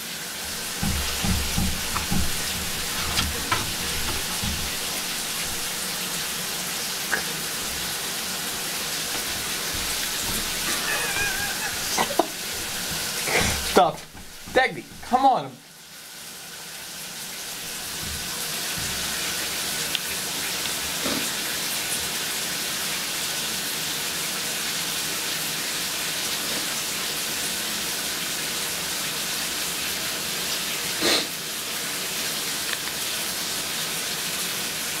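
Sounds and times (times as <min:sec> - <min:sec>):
shower water spraying: 0:00.0 - 0:35.0.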